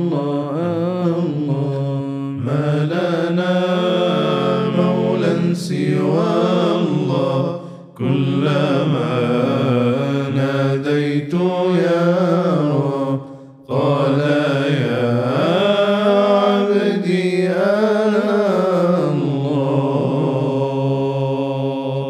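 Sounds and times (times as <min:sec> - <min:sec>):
men singing unaccompanied: 0:00.0 - 0:22.0.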